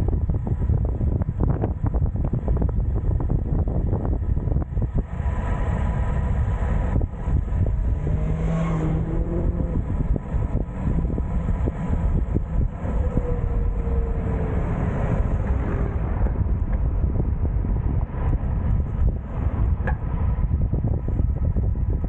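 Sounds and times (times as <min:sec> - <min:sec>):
hum of moving bike: 0:00.0 - 0:22.0
wind buffeting microphone: 0:00.0 - 0:22.0.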